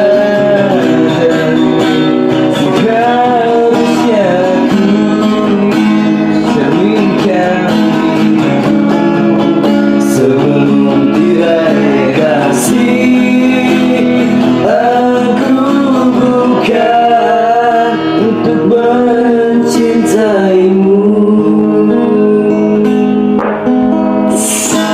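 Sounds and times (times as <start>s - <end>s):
acoustic guitar playing: 0.0s - 24.9s
person singing sliding melody: 0.0s - 24.9s.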